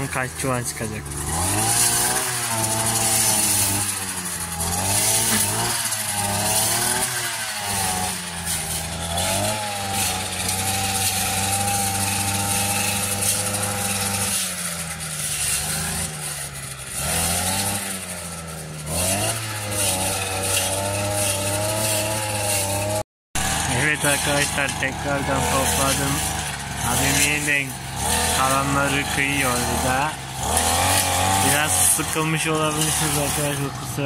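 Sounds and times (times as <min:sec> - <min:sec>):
small engine running under load: 0:00.0 - 0:34.0.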